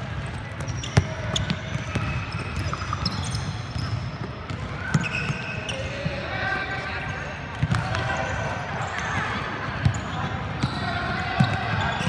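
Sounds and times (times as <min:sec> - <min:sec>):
sneakers squeaking on floor: 0:00.0 - 0:06.2, 0:07.0 - 0:12.0.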